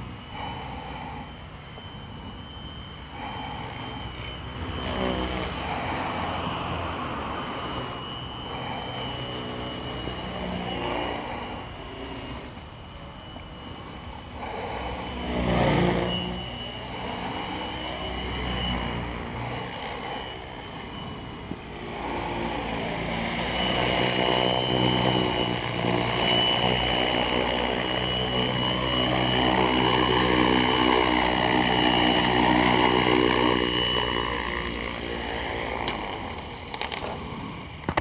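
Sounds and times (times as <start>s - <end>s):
electric motor whine: 0.0s - 38.0s
rotor buzzing: 0.0s - 38.0s.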